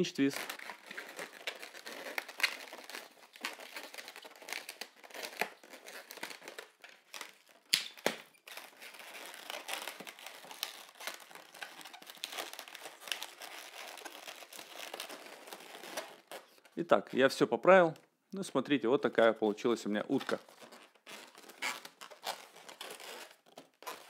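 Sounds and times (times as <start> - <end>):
balloons squeaking and rubbing: 0.0 - 18.0, 19.0 - 24.0.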